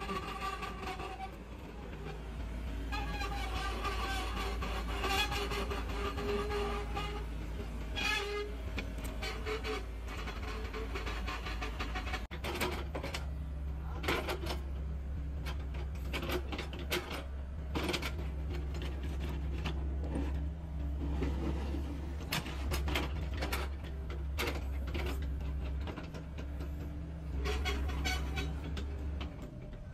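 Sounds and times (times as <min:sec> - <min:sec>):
excavator engine drone: 0:00.0 - 0:29.9.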